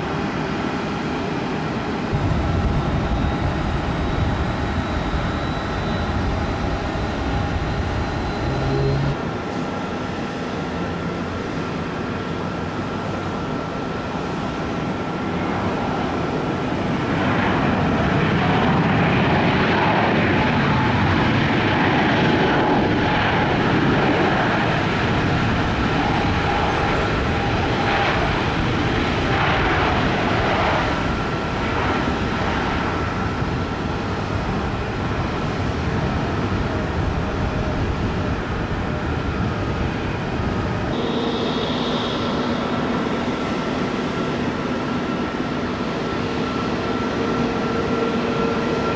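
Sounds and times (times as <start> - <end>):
airliner engine rush: 0.0 - 48.9.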